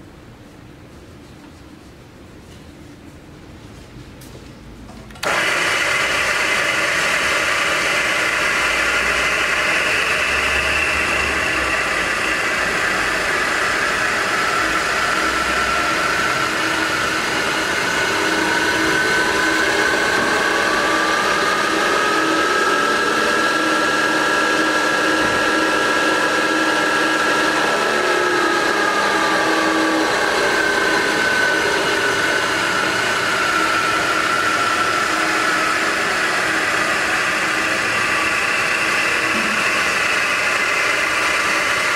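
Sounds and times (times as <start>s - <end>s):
milling machine motor whine: 5.2s - 41.9s.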